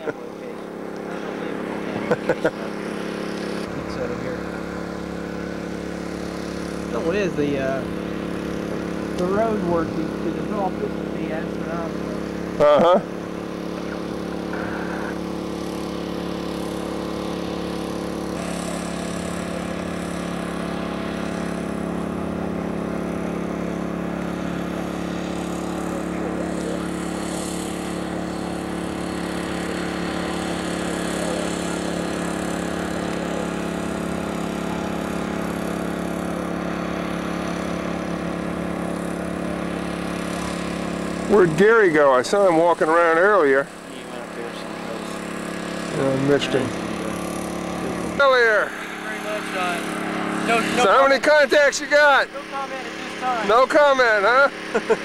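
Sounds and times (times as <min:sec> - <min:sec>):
small engine humming: 0:00.0 - 0:55.0.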